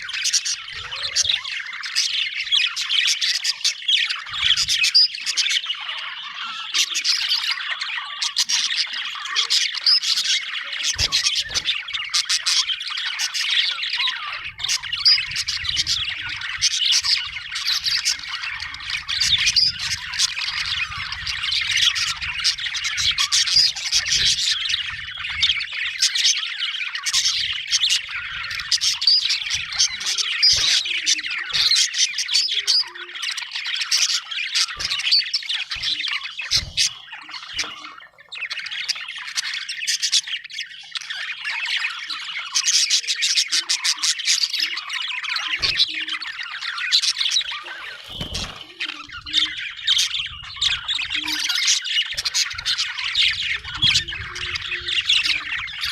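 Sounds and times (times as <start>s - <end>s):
budgerigars chattering: 0.0s - 55.9s.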